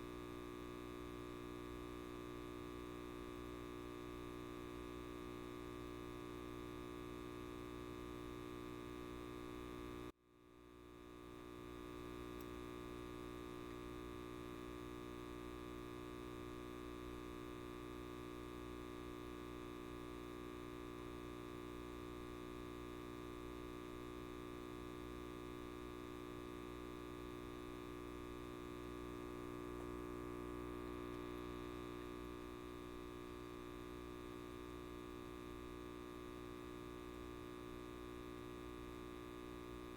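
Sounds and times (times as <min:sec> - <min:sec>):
light bulb electrical buzz: 0:00.0 - 0:39.9.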